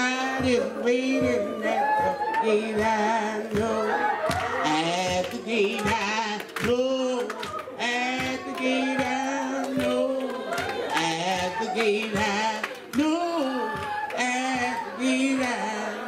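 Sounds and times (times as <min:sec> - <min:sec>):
accompaniment with steady beat: 0:00.0 - 0:16.0
person singing gospel: 0:00.0 - 0:16.0.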